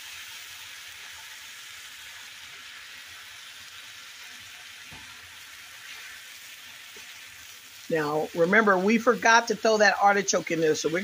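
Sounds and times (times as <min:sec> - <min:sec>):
vegetables sizzling in a skillet: 0:00.0 - 0:11.0.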